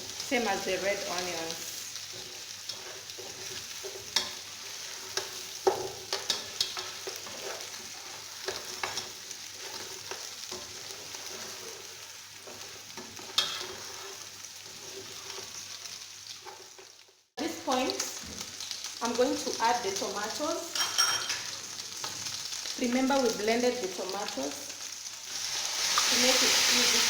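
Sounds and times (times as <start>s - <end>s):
chicken sizzling in a pot: 0.0s - 27.0s.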